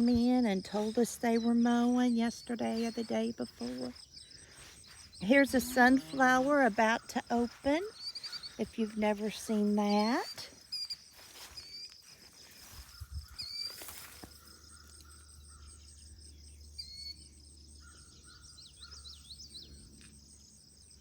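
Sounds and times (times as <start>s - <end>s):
birds chirping: 0.0s - 21.0s
insects trilling: 0.0s - 21.0s.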